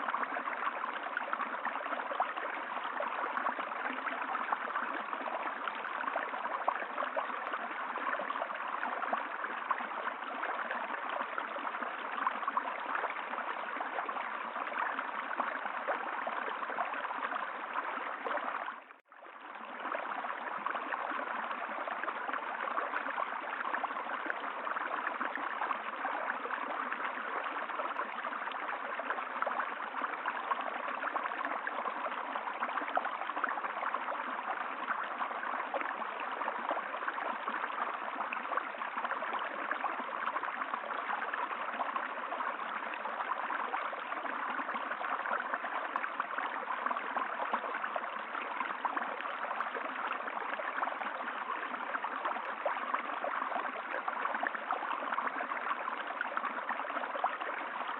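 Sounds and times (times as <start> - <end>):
stream running water: 0.0 - 57.9.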